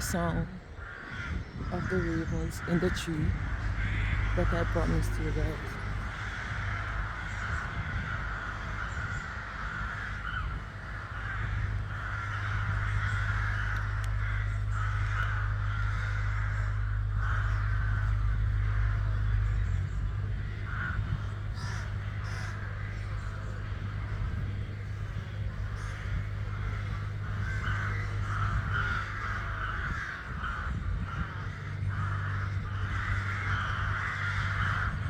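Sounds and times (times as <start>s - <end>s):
ravens cawing: 0.0s - 35.0s
steady low rumble: 0.0s - 35.0s.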